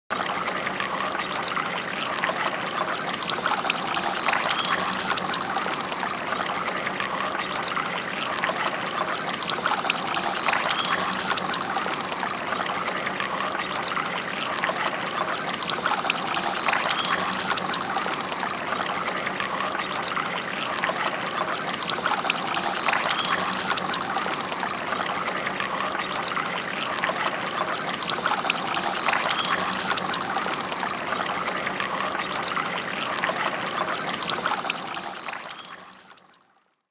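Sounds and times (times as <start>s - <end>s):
fountain water trickling and splashing: 0.1s - 36.9s.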